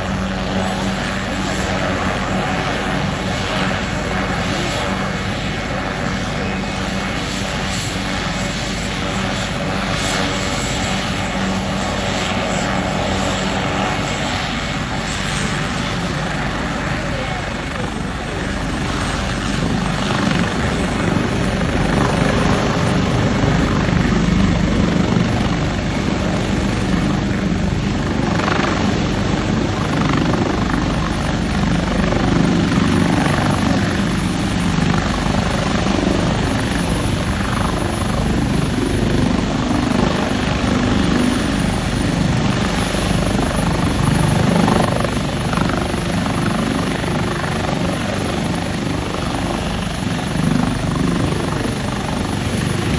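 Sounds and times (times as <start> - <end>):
helicopter running loudly: 0.0 - 52.9.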